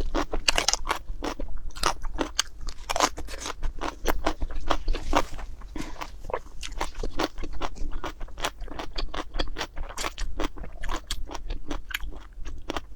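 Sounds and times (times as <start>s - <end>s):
chewing crunchy food: 0.0s - 12.9s.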